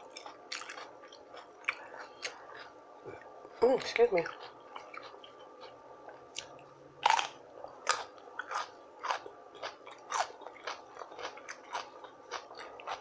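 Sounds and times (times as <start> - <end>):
person chewing crunchy food: 0.0 - 3.4, 4.2 - 13.0.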